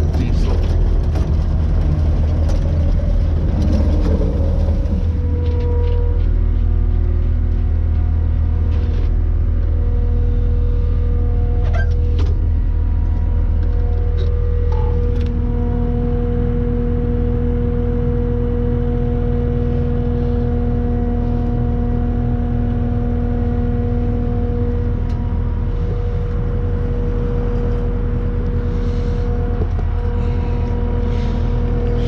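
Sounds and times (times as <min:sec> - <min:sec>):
skid steer engine rumbling: 0:00.0 - 0:32.0.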